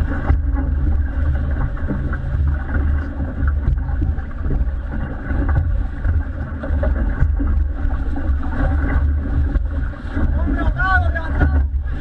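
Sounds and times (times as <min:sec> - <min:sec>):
motorboat engine drone: 0:00.0 - 0:12.0
rushing water: 0:00.0 - 0:12.0.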